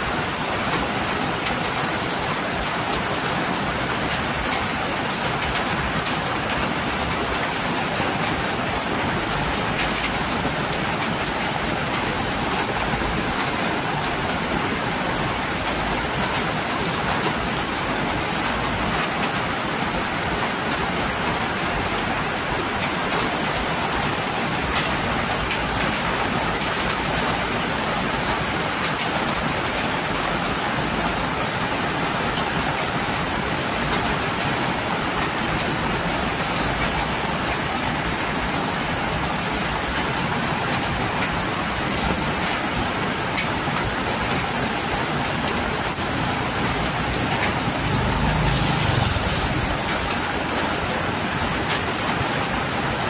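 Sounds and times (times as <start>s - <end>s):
heavy rain downpour: 0.0s - 53.0s
raindrops ticking on surfaces: 0.0s - 53.0s.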